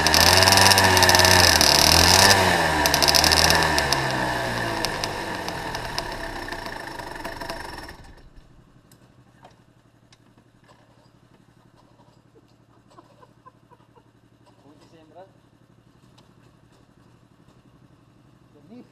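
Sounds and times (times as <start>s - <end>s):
two-stroke kart engine running: 0.0s - 18.6s.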